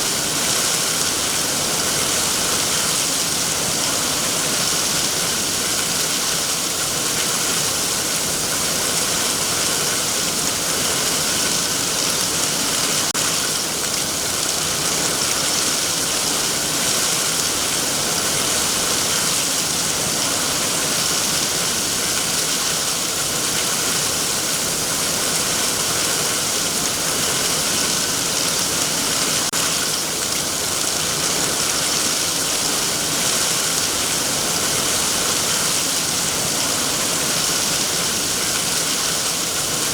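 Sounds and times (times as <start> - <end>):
heavy rain falling on trees: 0.0 - 39.9.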